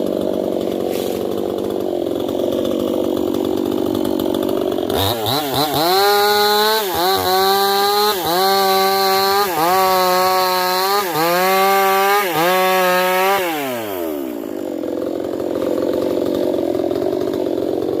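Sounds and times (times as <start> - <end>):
chainsaw engine revving: 0.0 - 18.0.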